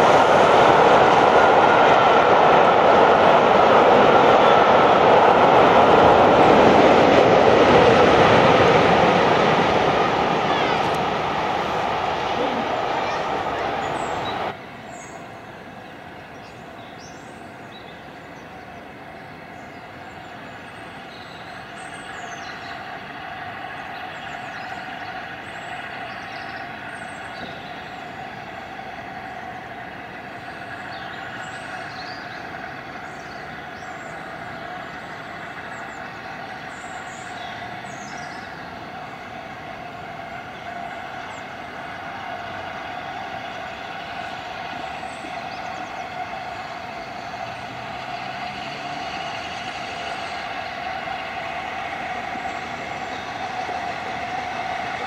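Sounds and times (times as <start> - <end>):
distant steam locomotive: 0.0 - 55.0.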